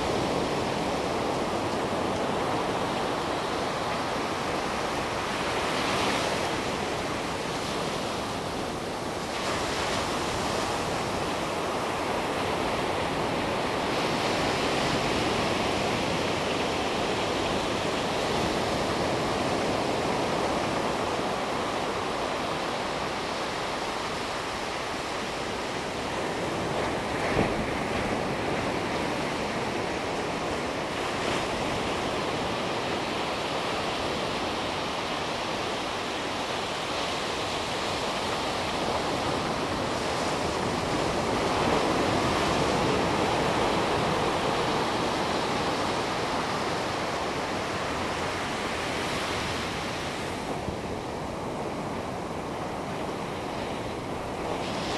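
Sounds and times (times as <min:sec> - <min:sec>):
ocean surf breaking on beach: 0:00.0 - 0:54.9.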